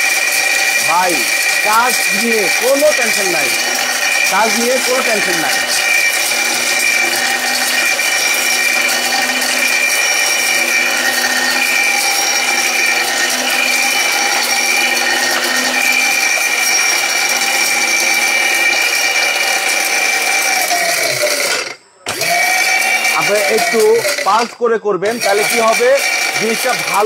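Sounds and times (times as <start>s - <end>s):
grinding spice into powder: 0.0s - 27.0s
mixer grinder motor whine: 0.0s - 27.0s.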